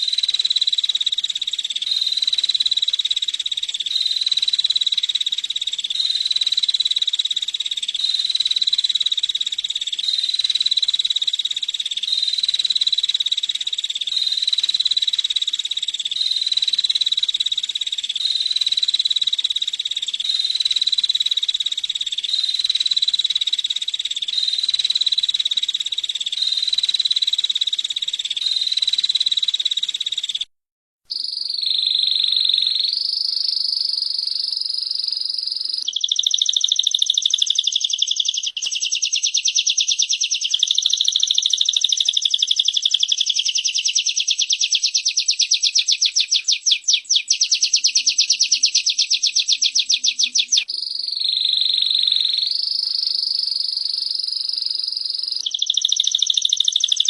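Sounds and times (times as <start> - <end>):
birds calling with rapid trills: 0.0 - 30.5, 31.1 - 57.0
fast buzzing bird trill: 0.0 - 30.5, 31.1 - 57.0.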